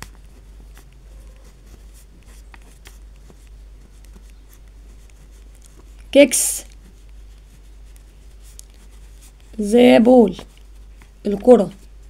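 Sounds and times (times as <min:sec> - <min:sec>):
pen scratching on paper: 0:00.0 - 0:12.0.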